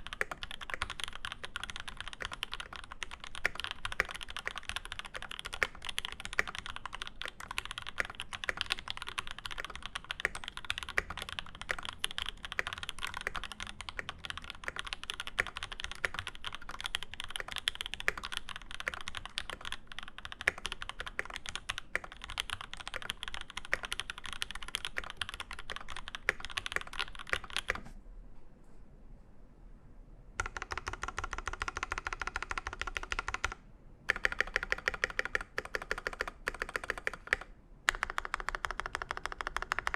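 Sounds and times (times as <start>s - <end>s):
typing on mechanical keyboard: 0.0s - 27.8s, 30.4s - 39.9s.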